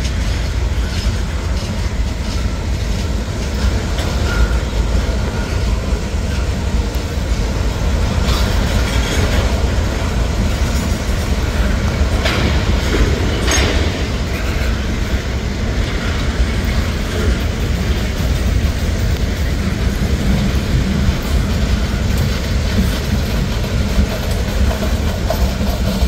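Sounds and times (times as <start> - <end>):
freight train rumbling past: 0.0 - 26.0
wheels clacking over rail joints: 0.0 - 26.0.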